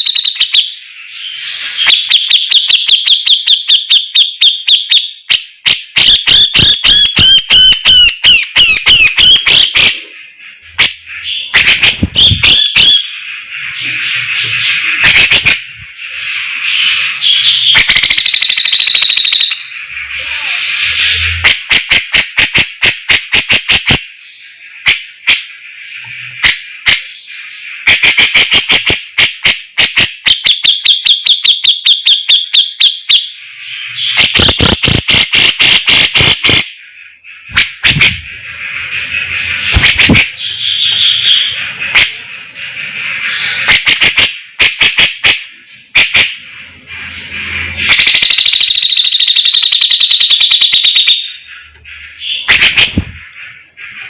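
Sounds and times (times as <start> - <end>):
bird high trill: 0.0 - 28.8, 29.9 - 54.0
bird singing rapid sharp notes: 0.0 - 54.0.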